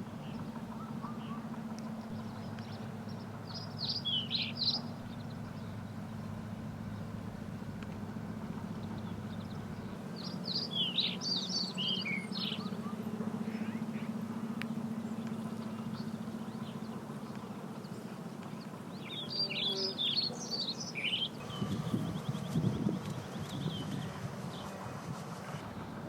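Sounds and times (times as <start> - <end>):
songbird chirping: 0.0 - 24.8
steady low hum: 0.0 - 26.0.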